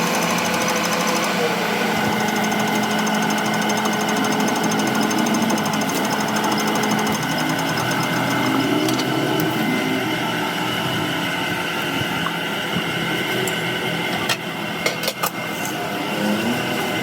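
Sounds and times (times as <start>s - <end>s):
metalworking machine running: 0.0s - 17.0s.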